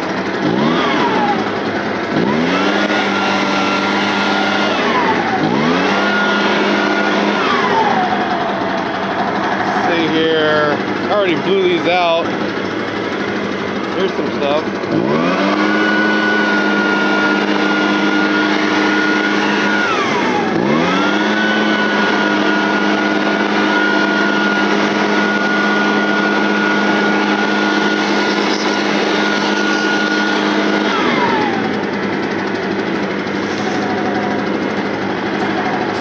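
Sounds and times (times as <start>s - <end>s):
leaf blower engine running: 0.0s - 36.0s.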